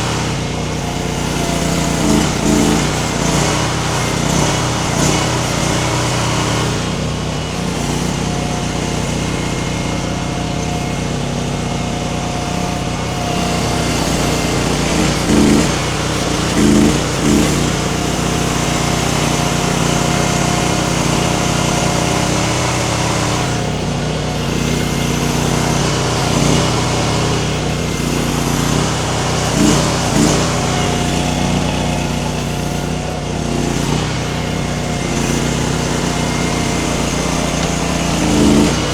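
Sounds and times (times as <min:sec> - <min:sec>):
skid steer engine running: 0:00.0 - 0:38.9.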